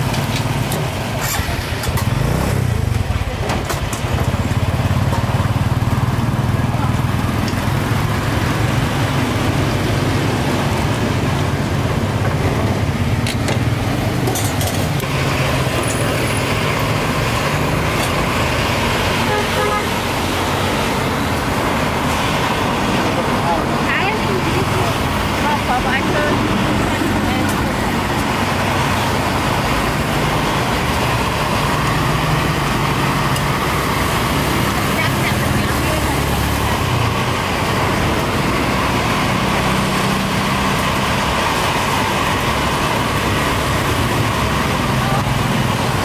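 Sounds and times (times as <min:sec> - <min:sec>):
street traffic: 0:00.0 - 0:46.0.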